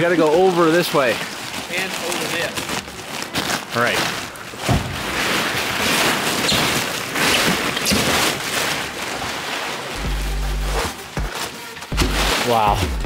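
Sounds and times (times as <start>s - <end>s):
plastic tarp crinkling: 0.0s - 13.0s.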